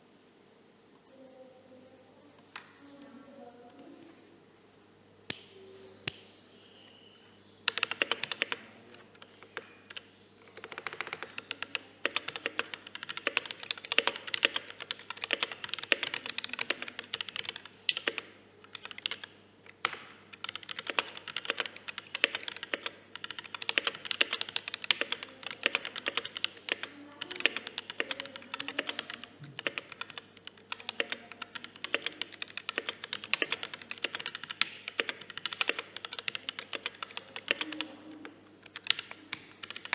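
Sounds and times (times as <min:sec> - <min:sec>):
typing on mechanical keyboard: 0:07.7 - 0:39.9.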